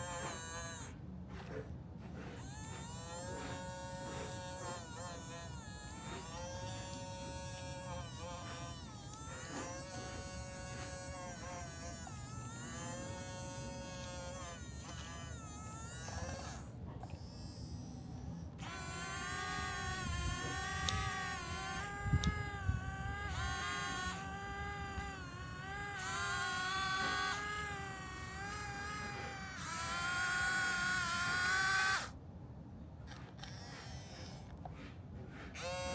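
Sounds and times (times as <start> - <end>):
toy electric motors whining: 0.0 - 32.2, 33.1 - 35.9.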